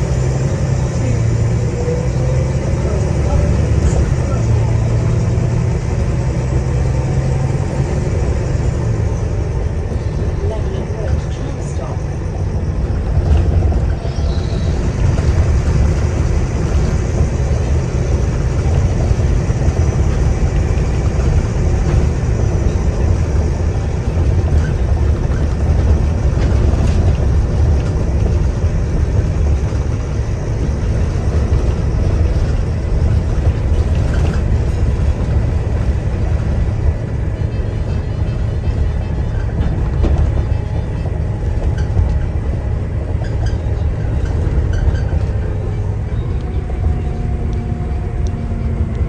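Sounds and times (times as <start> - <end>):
bus diesel engine rumble: 0.0 - 49.0.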